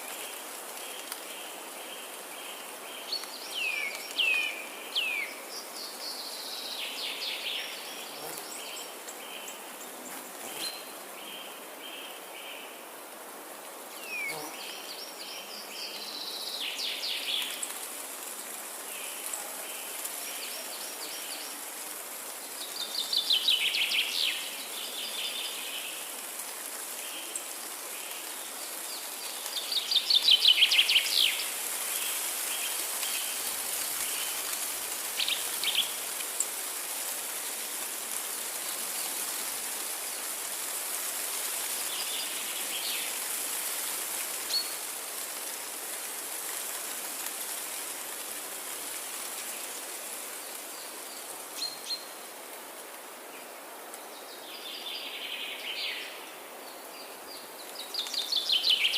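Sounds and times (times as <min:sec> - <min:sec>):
steady high hiss: 0:00.0 - 0:58.9.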